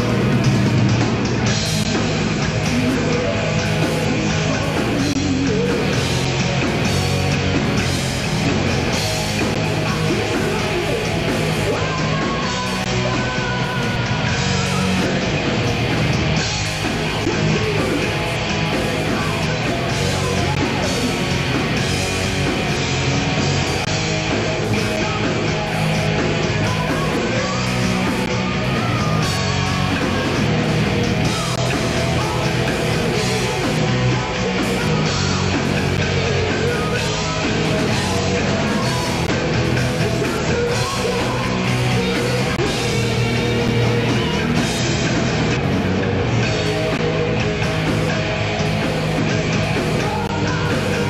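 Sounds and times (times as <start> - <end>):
bass: 0.0 - 51.0
drum kit: 0.0 - 51.0
electric guitars: 0.0 - 51.0.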